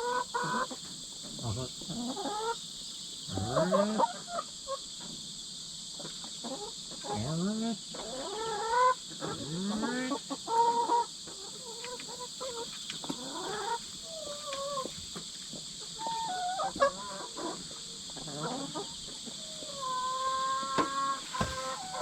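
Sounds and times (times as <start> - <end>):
hens clucking: 0.0 - 5.2, 5.9 - 22.0
insects chirring: 0.0 - 22.0.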